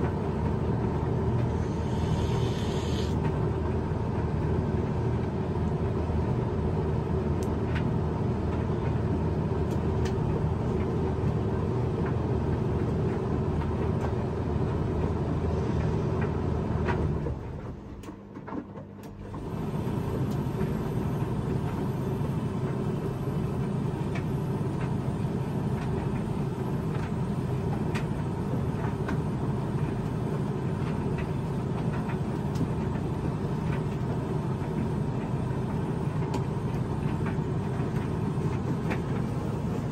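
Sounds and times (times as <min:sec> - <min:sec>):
tumble dryer drum rumbling: 0:00.0 - 0:39.9.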